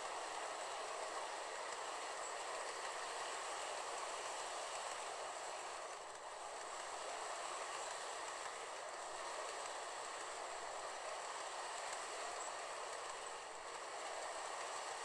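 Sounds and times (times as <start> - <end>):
model train rolling hum: 0.0 - 15.0.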